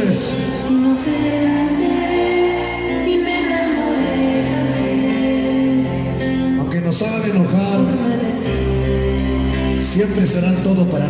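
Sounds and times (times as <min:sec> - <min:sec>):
loud music over sound system: 0:00.0 - 0:11.0.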